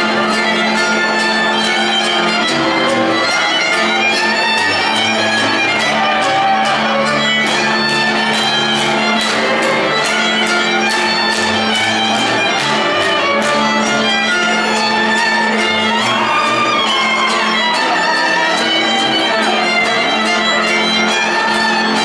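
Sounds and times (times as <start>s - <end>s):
folk dance music with fiddle: 0.0s - 22.0s.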